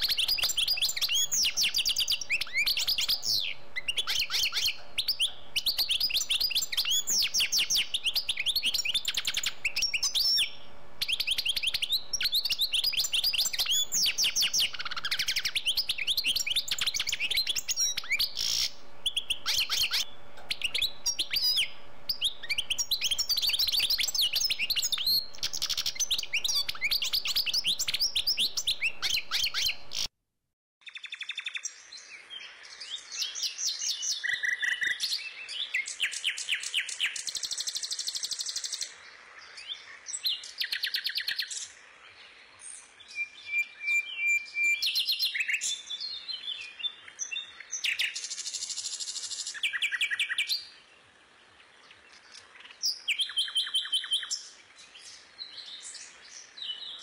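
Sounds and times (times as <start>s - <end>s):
songbird chirping and trilling: 0.0s - 30.1s, 30.8s - 57.0s.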